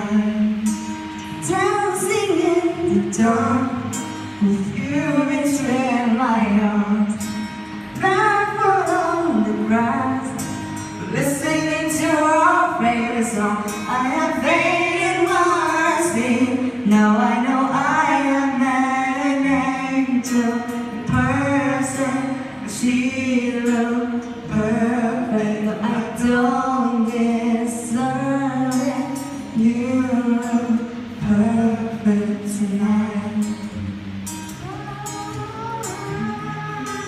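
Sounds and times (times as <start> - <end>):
acoustic guitar: 0.0 - 37.0
man and woman singing ballad: 0.0 - 37.0.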